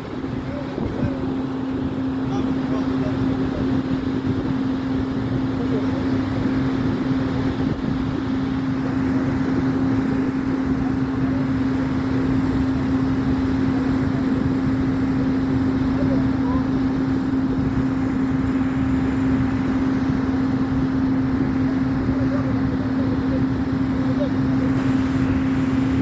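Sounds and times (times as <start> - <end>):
diesel truck engines droning: 0.0 - 26.0.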